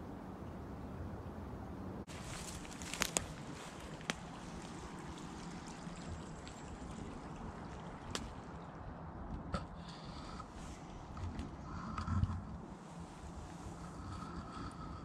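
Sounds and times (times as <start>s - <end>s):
stream trickling: 2.0s - 15.0s.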